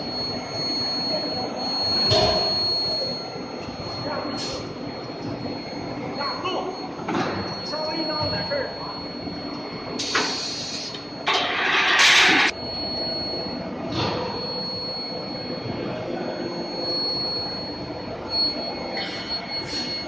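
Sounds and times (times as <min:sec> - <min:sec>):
high machine whine: 0:00.0 - 0:20.0.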